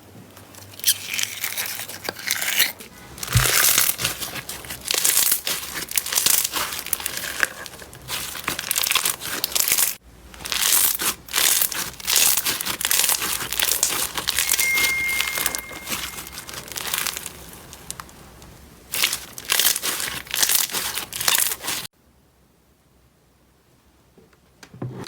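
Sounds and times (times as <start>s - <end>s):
slime crinkling and crackling: 0.4s - 21.9s.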